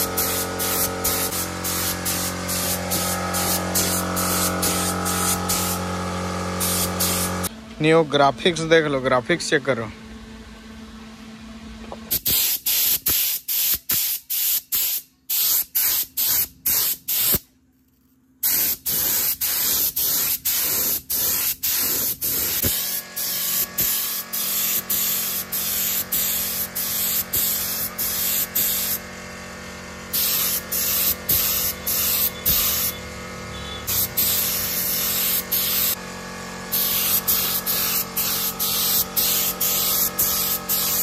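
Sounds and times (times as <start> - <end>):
spray paint hissing bursts: 0.0 - 7.5, 12.1 - 17.5, 18.4 - 29.0, 30.1 - 33.0, 33.6 - 36.0, 36.7 - 41.0.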